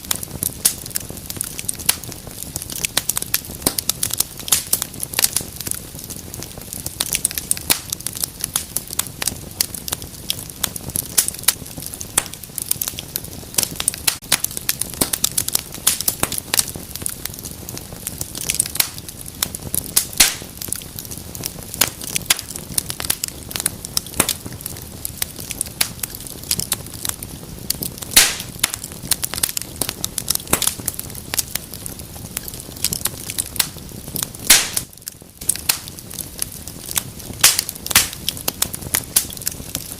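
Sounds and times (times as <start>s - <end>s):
rush of flames: 0.0s - 39.9s
wood fire crackling and popping: 0.0s - 39.9s.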